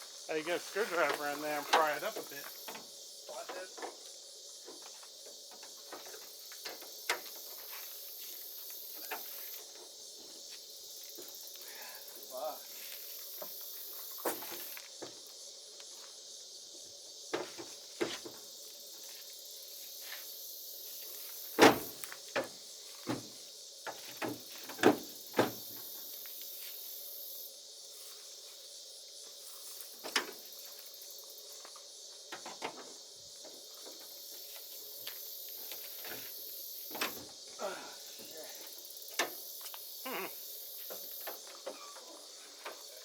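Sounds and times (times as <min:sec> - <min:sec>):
steady high hiss: 0:00.0 - 0:43.0.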